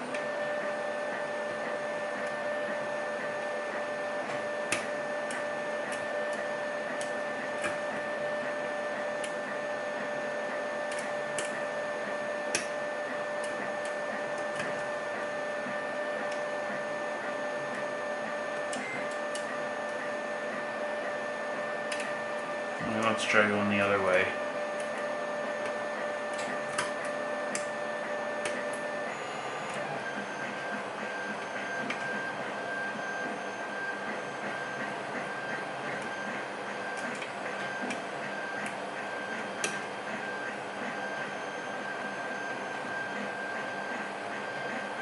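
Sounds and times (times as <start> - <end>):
machine hum: 0.0 - 45.0.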